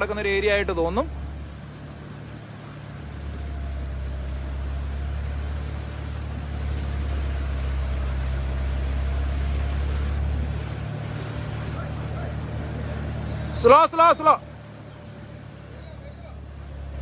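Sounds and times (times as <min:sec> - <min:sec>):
diesel engine droning: 0:00.0 - 0:17.0
water washing: 0:00.0 - 0:17.0.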